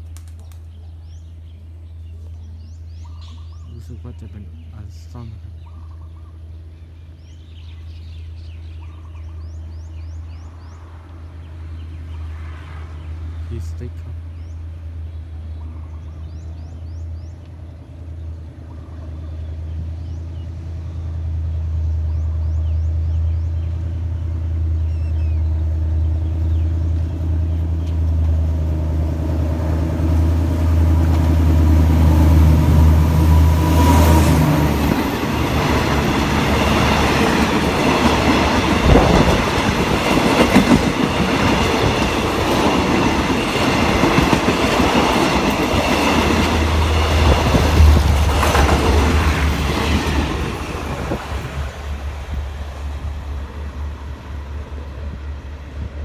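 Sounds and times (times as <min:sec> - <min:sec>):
locomotive engine drone: 0:00.0 - 0:56.0
rail rumble and wheel clatter: 0:00.0 - 0:56.0.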